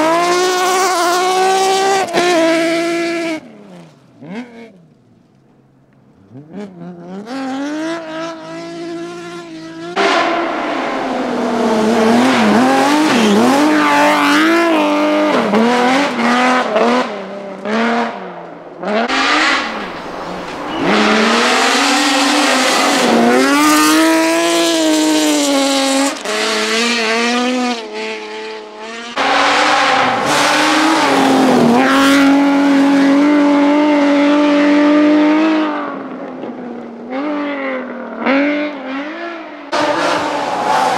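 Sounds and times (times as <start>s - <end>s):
rally car engines revving: 0.0s - 5.4s, 6.0s - 40.9s.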